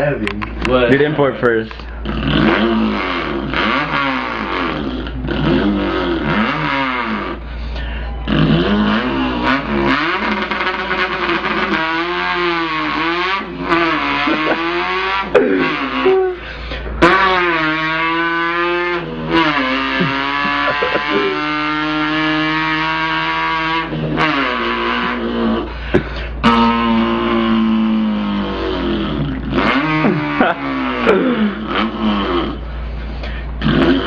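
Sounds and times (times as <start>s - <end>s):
man imitating car engine: 0.0s - 34.0s.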